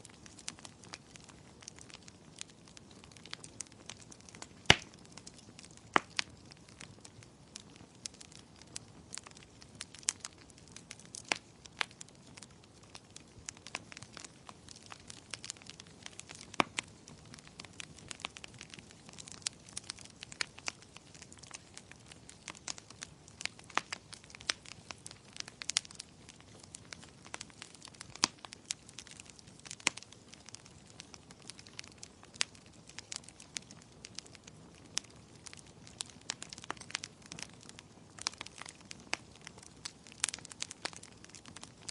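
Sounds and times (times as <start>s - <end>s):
low hiss of burning: 0.0s - 41.9s
wood fire popping and snapping: 0.0s - 41.9s.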